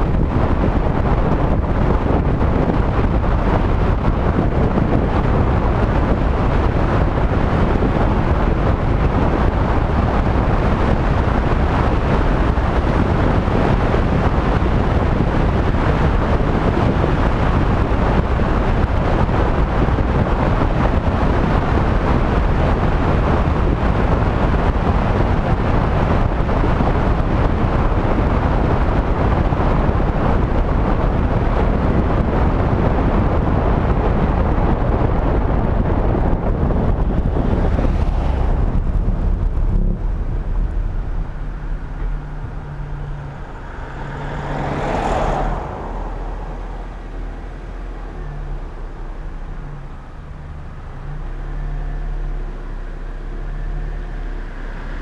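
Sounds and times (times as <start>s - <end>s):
road noise rumble: 0.0s - 55.0s
wind buffeting microphone: 0.0s - 55.0s.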